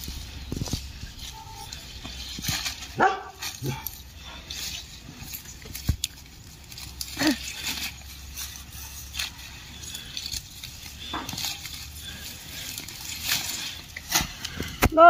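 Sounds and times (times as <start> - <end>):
leaves rustling and crackling: 0.0 - 15.0.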